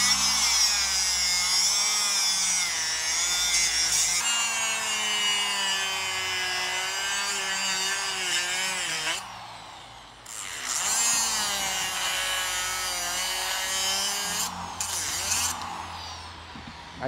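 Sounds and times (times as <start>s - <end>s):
grinder cutting metal: 0.0s - 17.0s.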